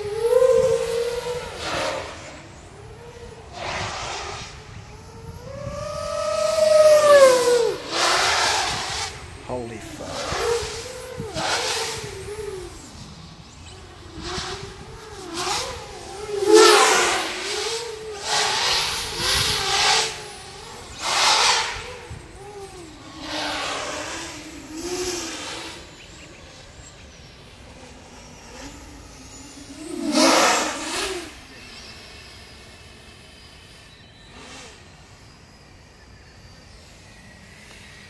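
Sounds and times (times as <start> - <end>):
racing drone motors buzzing: 0.0 - 38.0.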